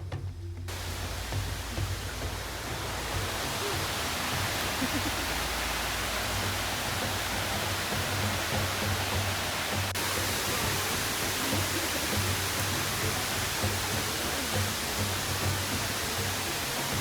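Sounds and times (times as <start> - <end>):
rushing water: 0.7 - 17.0.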